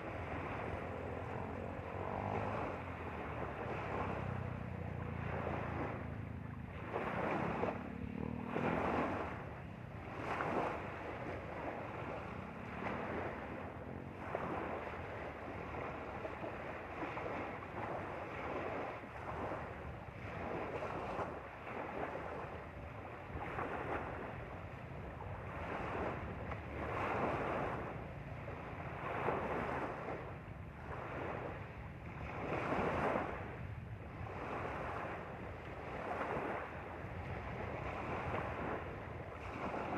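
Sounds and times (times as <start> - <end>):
lake waves lapping on rocky shore: 0.0 - 39.9.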